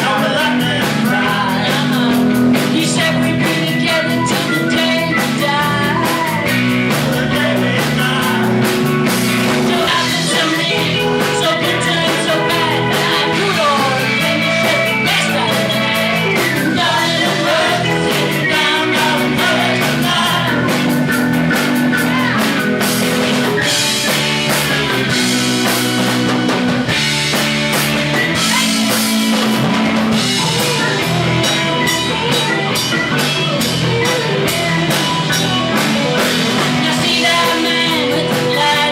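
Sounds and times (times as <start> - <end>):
person singing: 0.0 - 21.2, 21.9 - 22.6, 28.1 - 38.9
bass guitar: 0.0 - 38.9
drum kit: 0.0 - 38.9
electric guitar: 0.0 - 38.9.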